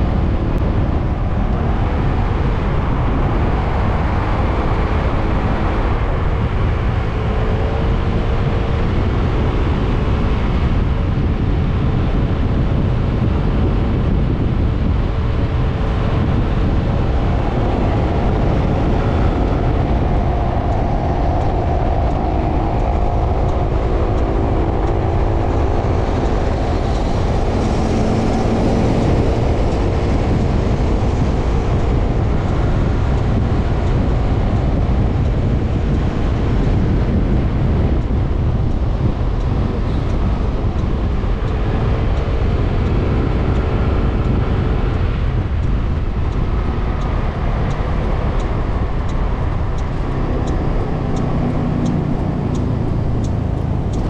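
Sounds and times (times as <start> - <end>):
scooter engine hum: 0.0 - 54.0
wind rush over microphone: 0.0 - 54.0.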